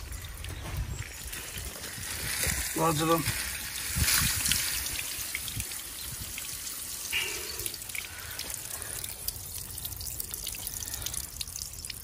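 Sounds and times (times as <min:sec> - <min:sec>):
water splashing on paving: 0:01.2 - 0:12.0.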